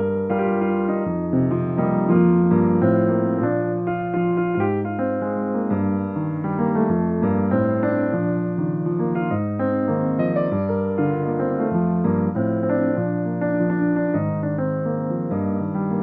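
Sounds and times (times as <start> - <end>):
piano playing held chords: 0.0 - 16.0.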